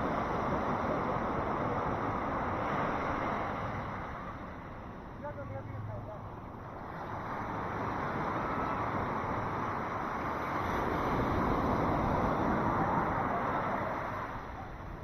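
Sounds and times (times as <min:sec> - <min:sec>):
sea waves washing onto beach: 0:00.0 - 0:15.0.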